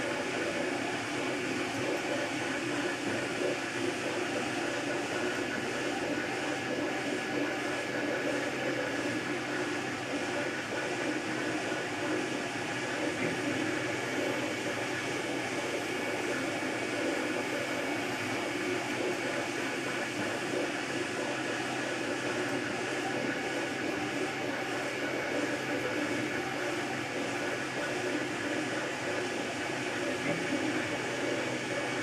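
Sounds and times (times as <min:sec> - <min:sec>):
steady mechanical whir: 0:00.0 - 0:32.0.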